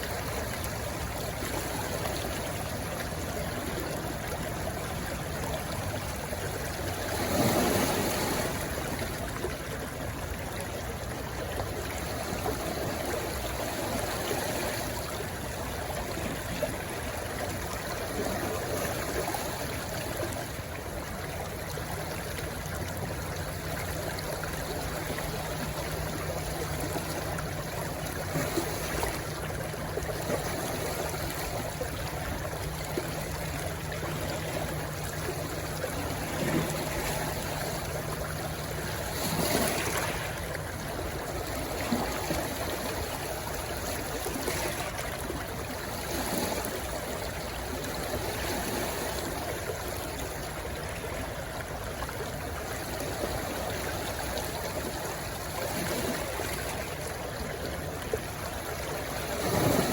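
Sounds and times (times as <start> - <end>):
stream rushing and trickling: 0.0 - 59.9.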